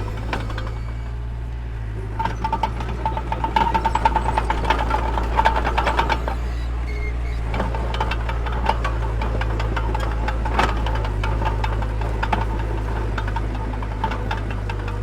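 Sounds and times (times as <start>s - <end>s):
diesel engine running: 0.0s - 15.0s
metallic clattering and squeaking: 0.0s - 15.0s.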